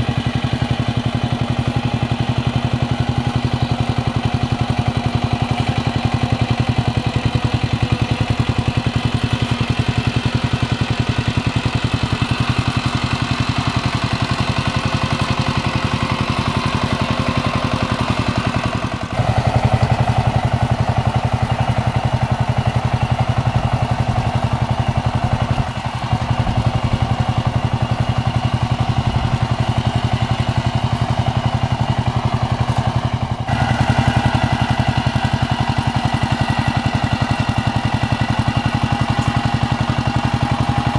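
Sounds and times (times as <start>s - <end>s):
diesel tiller engine chugging: 0.0s - 40.9s.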